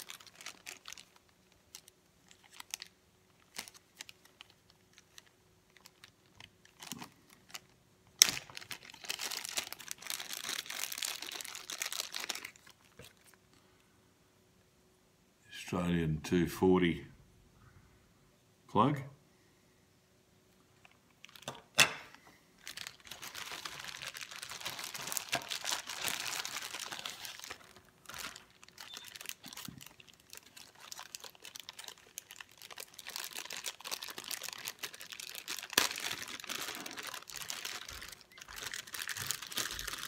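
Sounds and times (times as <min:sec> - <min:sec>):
plastic bags crinkling: 0:00.0 - 0:13.4, 0:20.8 - 0:40.0
quiet plastic rustling: 0:00.0 - 0:13.7, 0:20.5 - 0:40.0.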